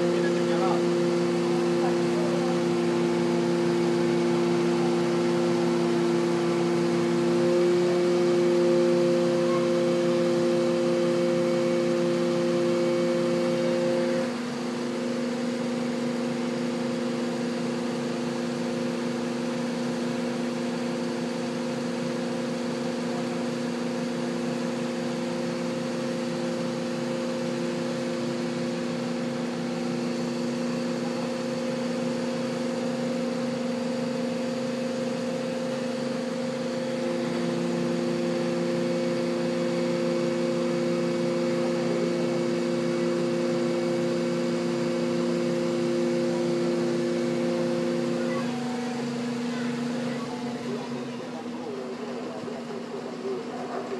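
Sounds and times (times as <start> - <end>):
fire truck engine humming: 0.0 - 53.9.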